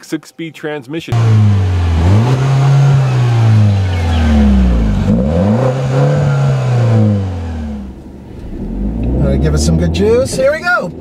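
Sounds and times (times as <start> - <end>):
car engine revving: 1.1 - 11.0.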